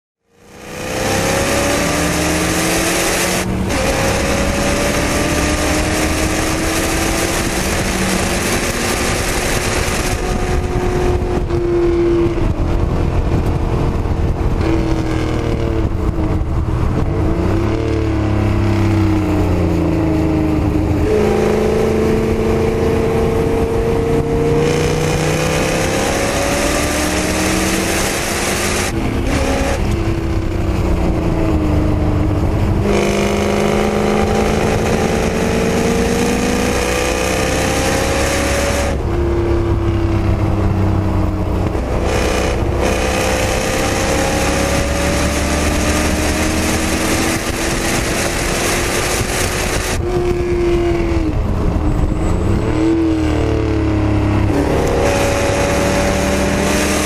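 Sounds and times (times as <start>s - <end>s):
car engine accelerating: 0.2s - 57.0s.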